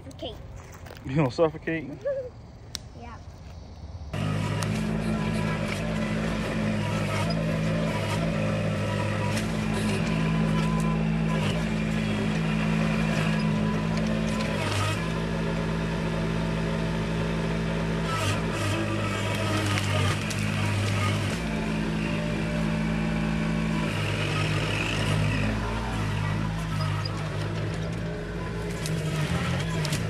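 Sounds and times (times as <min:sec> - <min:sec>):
diesel engine running: 0:02.4 - 0:30.0.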